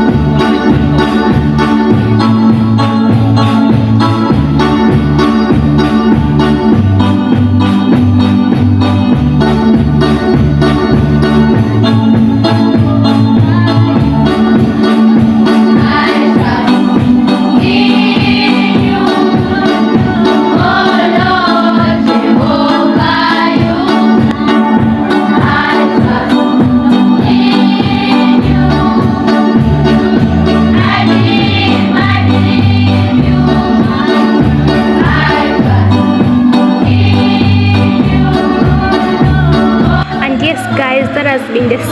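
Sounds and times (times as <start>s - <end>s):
deep rhythmic bass line: 0.0s - 41.9s
electronic organ: 0.0s - 41.9s
gospel choir singing: 0.0s - 41.9s.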